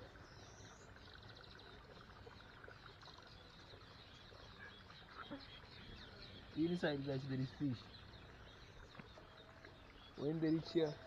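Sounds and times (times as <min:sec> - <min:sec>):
faint bird chirps and twitters: 0:00.0 - 0:11.0.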